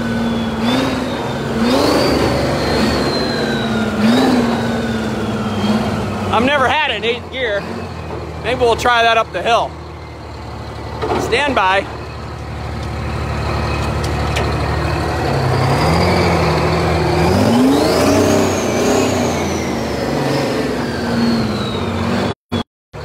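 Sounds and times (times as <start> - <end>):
high turbo whine: 0.0 - 23.0
tractor engine accelerating: 0.0 - 23.0.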